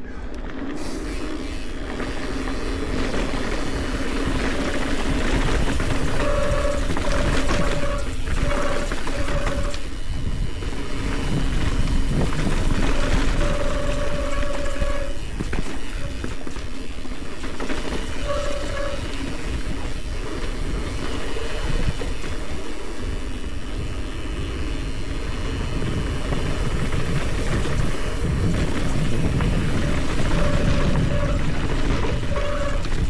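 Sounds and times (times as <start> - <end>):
bike rattling over rough ground: 0.0 - 33.0
wind and tyre rumble: 0.0 - 33.0.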